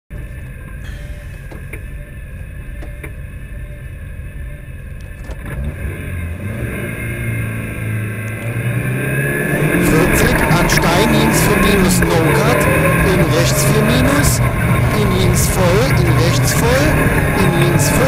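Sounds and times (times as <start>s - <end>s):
car engine revving: 0.2s - 18.0s.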